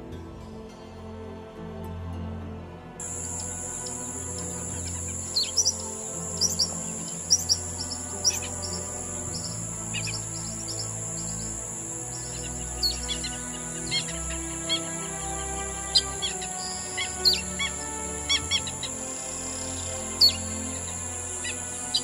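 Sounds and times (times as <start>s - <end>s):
soft background music: 0.0s - 22.0s
high-pitched hiss: 3.0s - 22.0s
small birds chirping: 3.0s - 22.0s.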